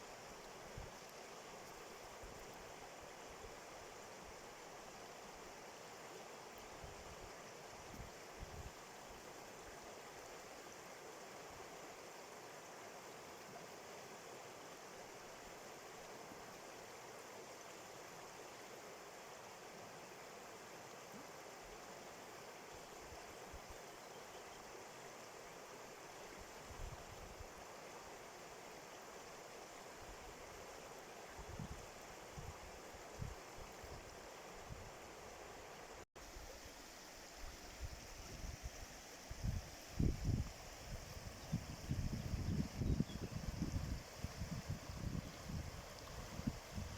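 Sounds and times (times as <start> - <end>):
flowing stream: 0.0 - 46.9.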